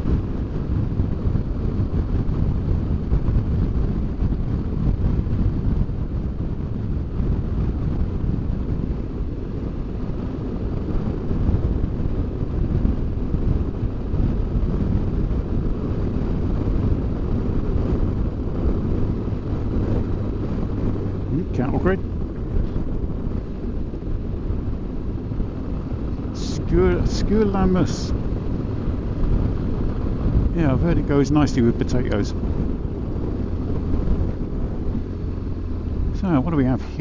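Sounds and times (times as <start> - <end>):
motorcycle engine drone: 0.0 - 37.0
wind rushing over microphone: 0.0 - 37.0.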